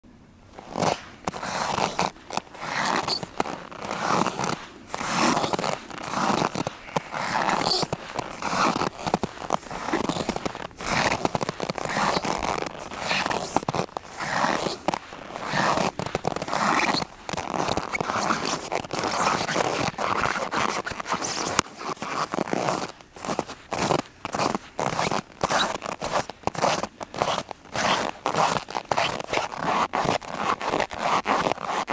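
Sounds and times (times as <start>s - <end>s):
footsteps crunching in snow: 0.5s - 31.9s.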